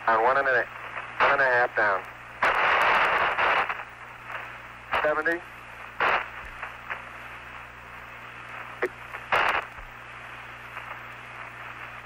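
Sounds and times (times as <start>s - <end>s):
low steady hum: 0.0s - 12.0s
radio hiss and static: 0.0s - 12.0s.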